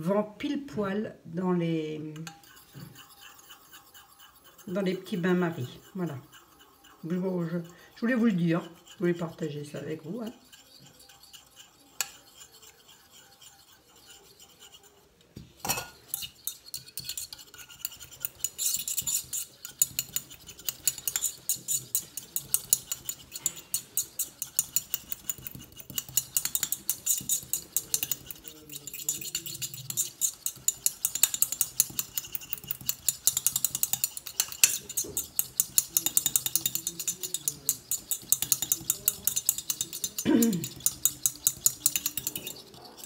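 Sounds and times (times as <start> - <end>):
utensil stirring in metal pot: 0.0 - 43.0.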